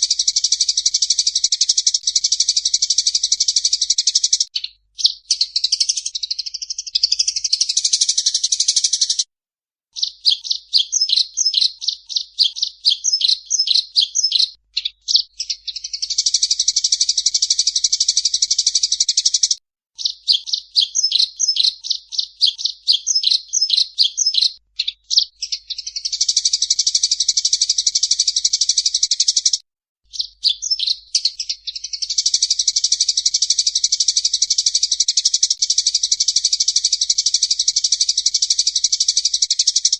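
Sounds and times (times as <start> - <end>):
songbird singing: 0.0 - 9.3, 10.0 - 39.9.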